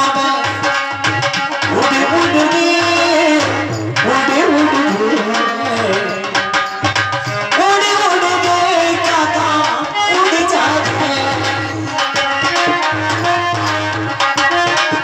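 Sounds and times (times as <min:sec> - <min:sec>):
person singing into microphone: 0:00.0 - 0:14.1
tabla drumming: 0:00.0 - 0:15.0.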